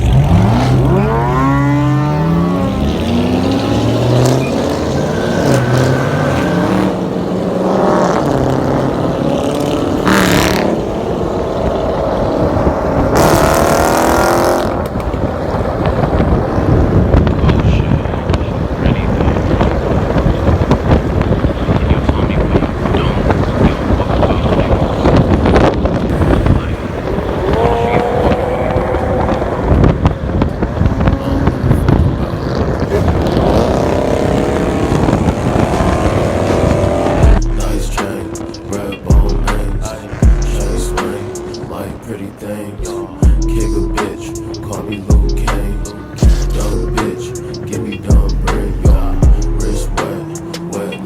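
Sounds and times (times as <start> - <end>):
car engines revving: 0.0 - 51.0
rough engine rumble: 0.0 - 51.0.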